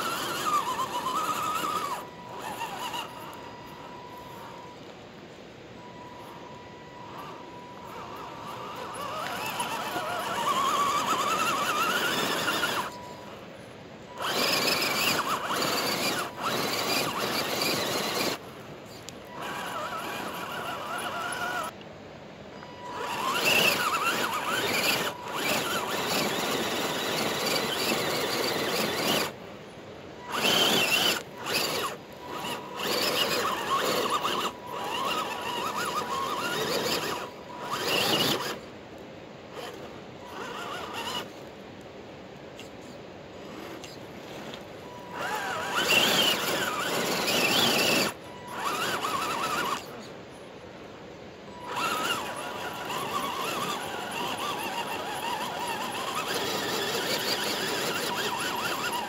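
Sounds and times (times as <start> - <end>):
electric motor and gears whining: 0.0 - 21.8, 22.5 - 41.9, 42.5 - 50.2, 51.4 - 59.0.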